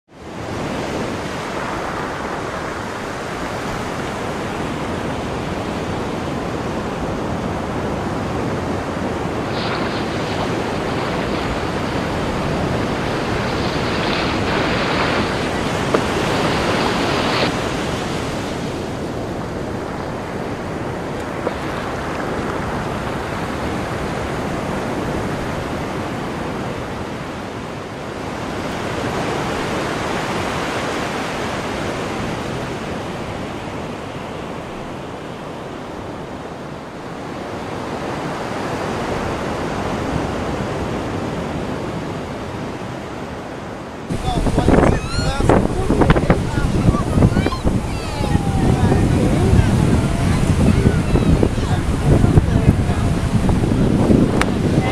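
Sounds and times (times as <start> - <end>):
ocean surf rushing: 0.1 - 54.9.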